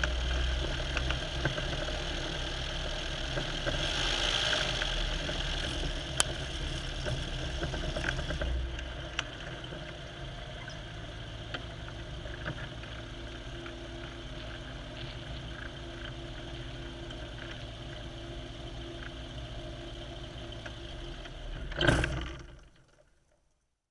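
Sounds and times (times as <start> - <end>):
aircraft engine drone: 0.0 - 22.5.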